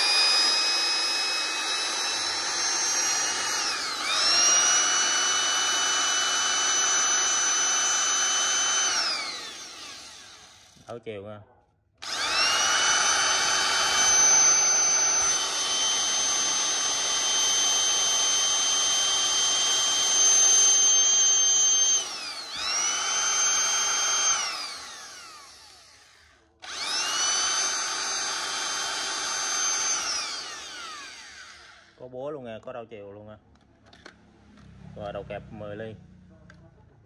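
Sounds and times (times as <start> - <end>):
hammer drill motor whine: 0.0 - 10.9, 12.0 - 32.1.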